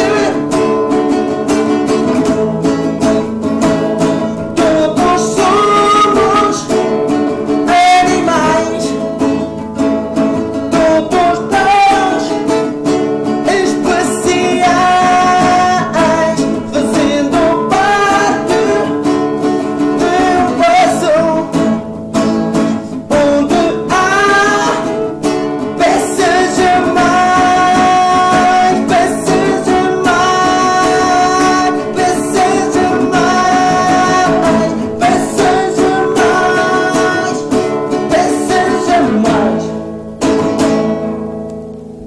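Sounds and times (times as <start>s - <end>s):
person singing: 0.0s - 9.6s, 10.2s - 39.9s
acoustic guitars: 0.0s - 42.0s.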